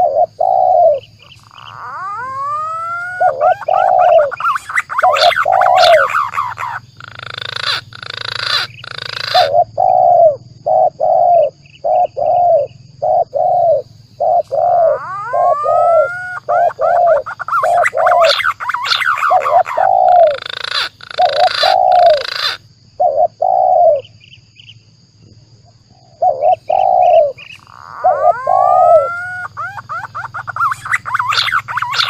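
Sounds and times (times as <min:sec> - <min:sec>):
pigeon whistled calls: 0:00.0 - 0:24.0, 0:26.2 - 0:32.0
dove cooing: 0:00.0 - 0:24.1, 0:26.0 - 0:32.0.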